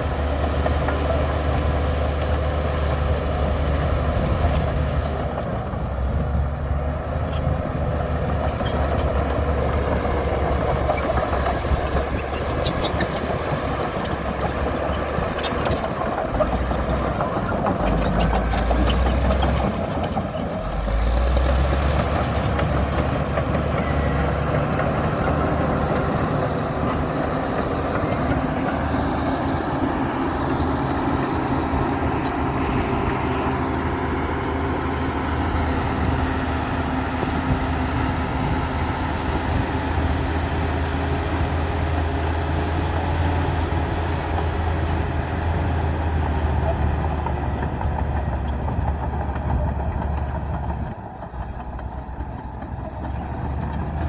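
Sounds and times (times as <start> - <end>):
bulldozer diesel engine rumble: 0.0 - 54.0.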